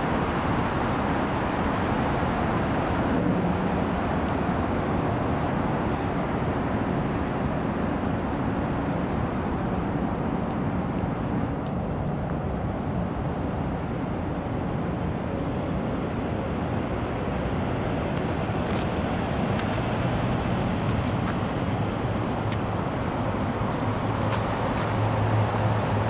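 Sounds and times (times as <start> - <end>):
traffic hum: 0.0 - 26.0.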